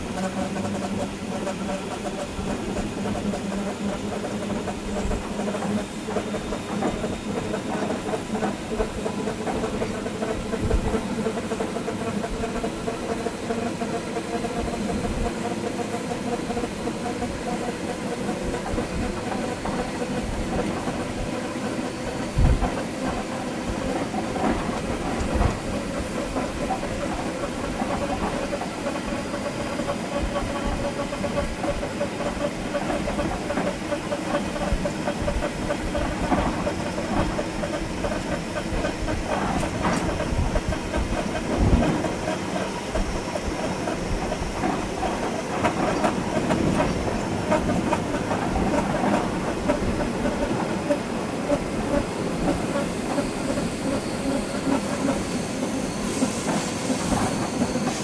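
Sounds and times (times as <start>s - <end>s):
train rumble and hiss: 0.0s - 58.0s.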